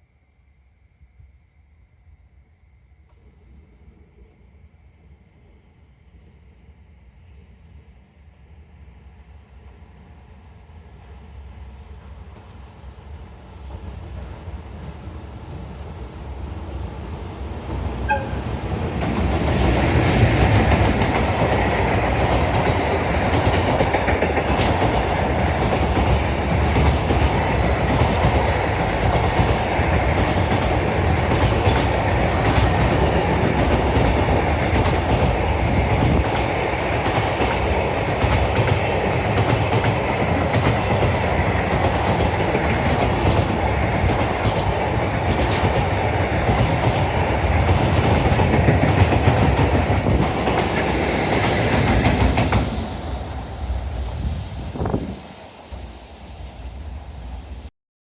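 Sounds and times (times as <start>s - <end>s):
freight train passing: 5.4s - 57.7s.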